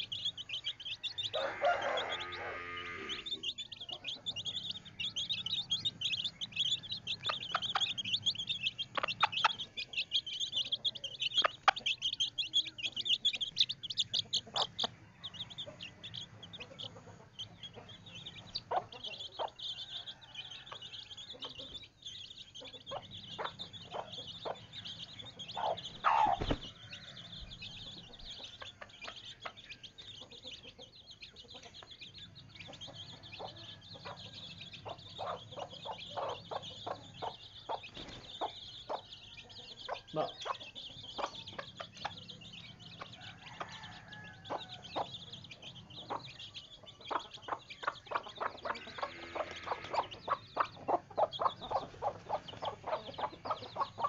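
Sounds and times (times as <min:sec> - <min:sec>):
rapid high-pitched chirping: 0:00.0 - 0:02.4, 0:03.0 - 0:54.0
chickens clucking: 0:00.0 - 0:54.0.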